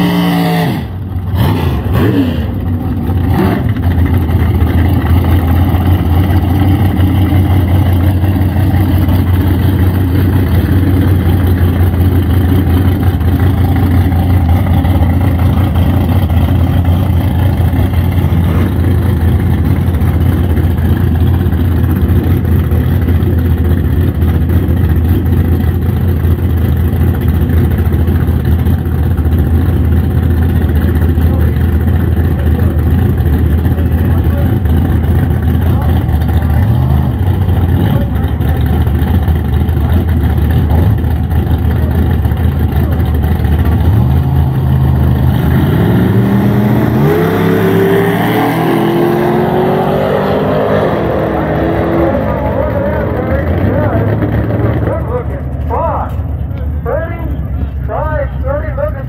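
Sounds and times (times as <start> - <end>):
engine running at low pitch: 0.0 - 59.0.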